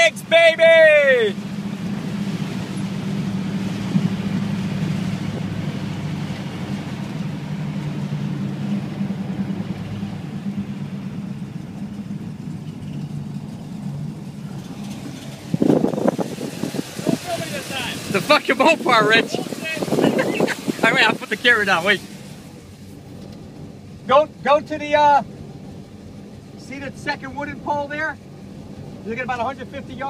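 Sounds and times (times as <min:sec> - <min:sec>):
car engine running at low revs: 0:00.0 - 0:30.0.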